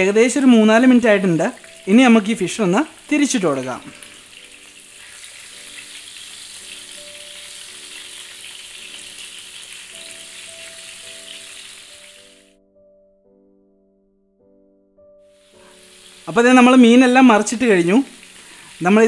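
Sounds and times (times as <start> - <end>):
soft background music: 0.0 - 19.0
fish sizzling in a pan: 0.7 - 12.6, 15.3 - 19.0.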